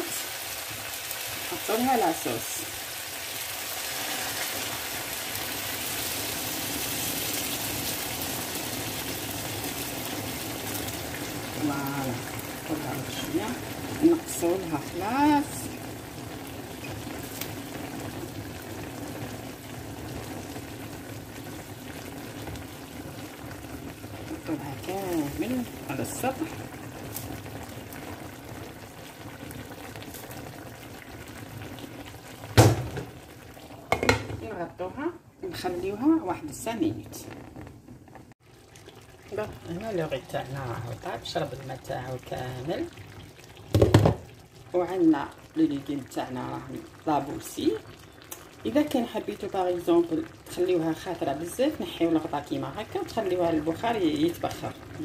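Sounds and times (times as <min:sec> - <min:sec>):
frying pan sizzling: 0:00.0 - 0:55.0.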